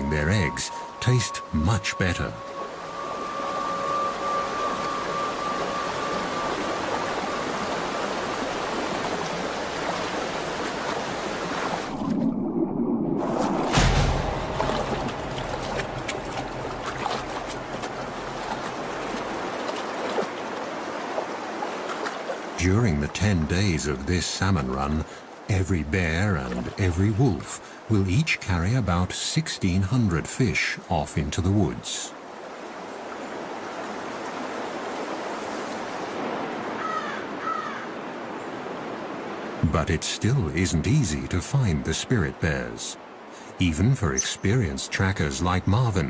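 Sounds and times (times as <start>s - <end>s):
stream water rushing: 0.0s - 12.4s, 13.2s - 46.0s.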